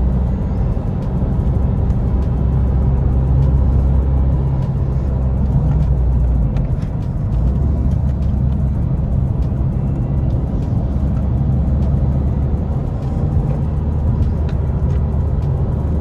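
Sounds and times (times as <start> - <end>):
car engine drone: 0.0 - 16.0
road noise: 0.0 - 16.0.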